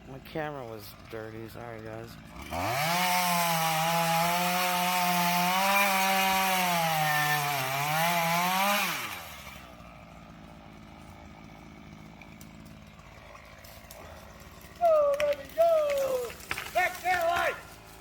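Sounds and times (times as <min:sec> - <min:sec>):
chainsaw cutting into tree: 0:00.0 - 0:18.0.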